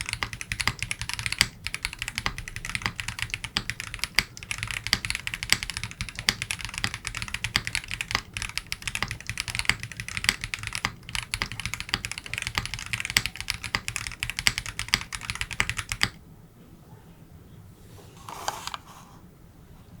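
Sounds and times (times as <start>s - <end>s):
mechanical keyboard typing: 0.0s - 16.2s.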